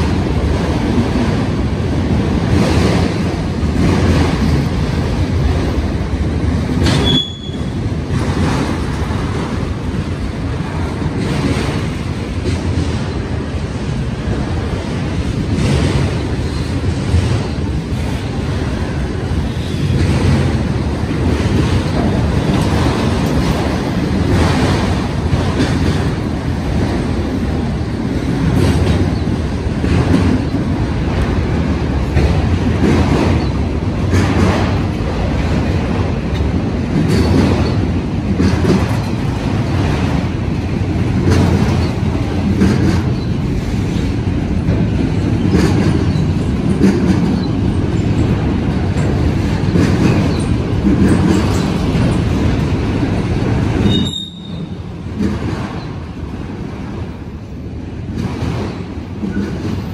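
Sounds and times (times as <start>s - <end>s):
train wheels rumbling on rail: 0.0s - 59.9s
wheels clacking on track: 0.0s - 59.9s.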